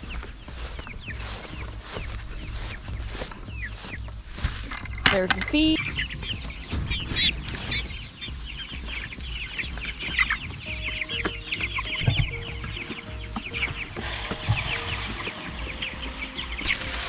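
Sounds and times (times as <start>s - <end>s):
chickens peeping: 0.0s - 17.0s
low thumps: 0.8s - 16.6s.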